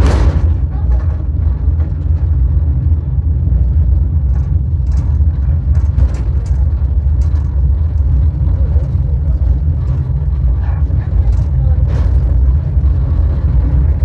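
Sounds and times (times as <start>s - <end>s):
cable car low rumble: 0.0s - 14.0s
light rattles and clicks: 0.0s - 14.0s.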